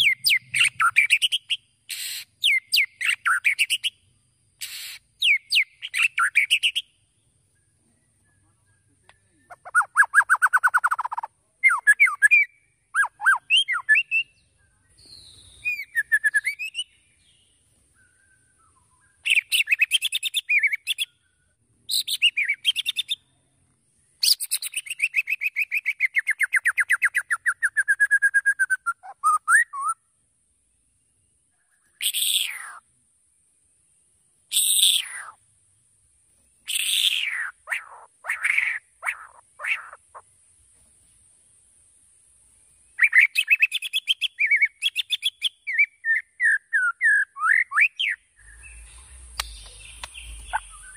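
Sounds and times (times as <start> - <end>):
bird singing rapid phrases: 0.0 - 50.9.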